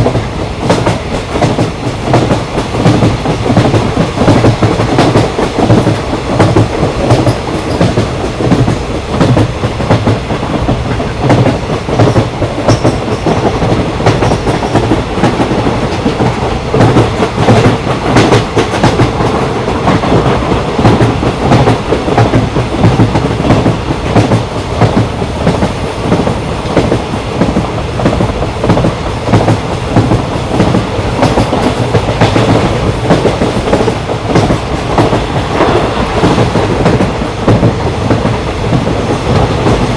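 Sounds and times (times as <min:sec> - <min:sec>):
train wheels clacking on rails: 0:00.0 - 0:39.9.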